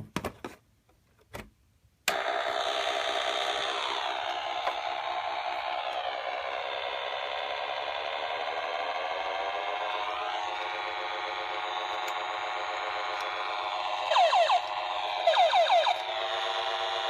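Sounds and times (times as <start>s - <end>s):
buzzy synthesized toy drone: 2.2s - 17.0s.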